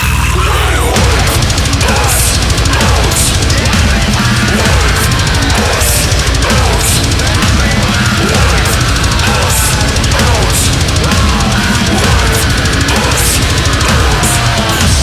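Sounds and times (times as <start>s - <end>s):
death metal song: 0.0s - 15.0s
cymbal crash: 1.0s - 15.0s.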